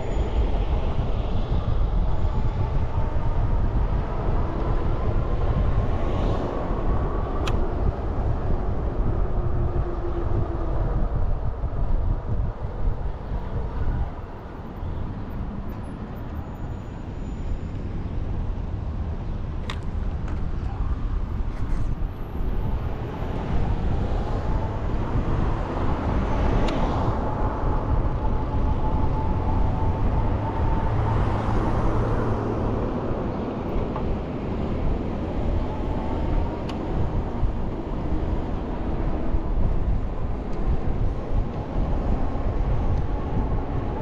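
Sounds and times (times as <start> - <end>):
vehicle low rumble: 0.0 - 44.0.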